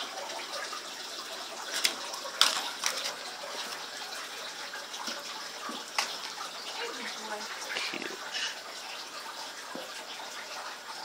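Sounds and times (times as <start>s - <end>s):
water running through tubing: 0.0s - 11.0s.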